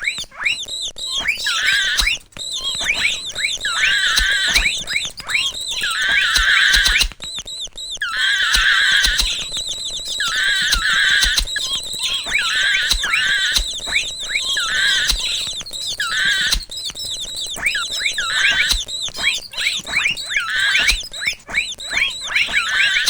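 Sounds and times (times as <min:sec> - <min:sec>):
mouse squeaking: 0:00.0 - 0:23.0.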